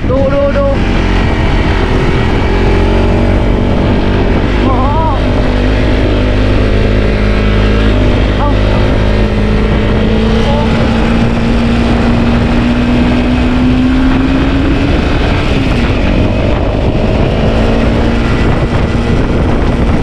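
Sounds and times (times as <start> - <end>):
dirt bike engine running: 0.0 - 20.0
wind rumble on microphone: 0.0 - 20.0.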